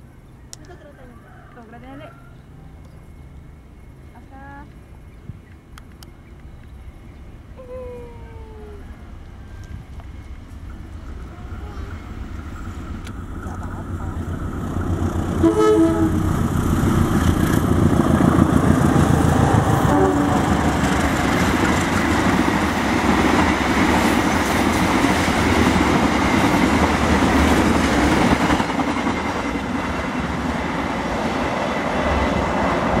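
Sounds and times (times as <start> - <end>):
locomotives passing: 0.0 - 33.0.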